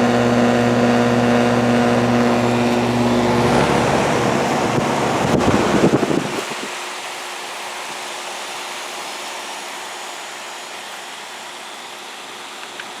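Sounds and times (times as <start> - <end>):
heat pump low rumble: 0.0 - 13.0.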